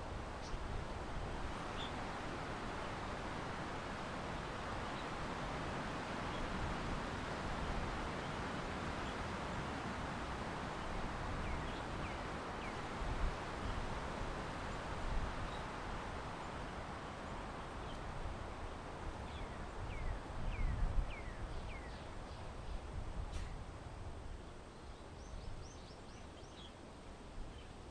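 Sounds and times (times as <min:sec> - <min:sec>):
wind rumbling on microphone: 0:00.0 - 0:26.2.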